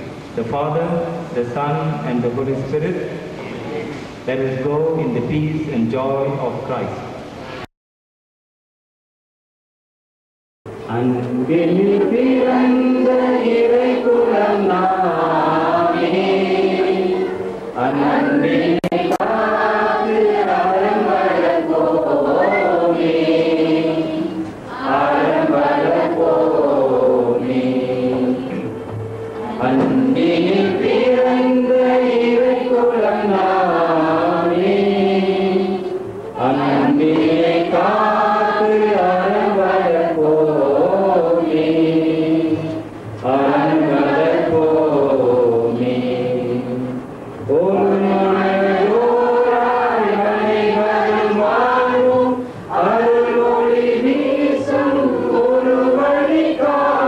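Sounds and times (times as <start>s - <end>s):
voices singing a slow hymn: 10.9s - 57.0s.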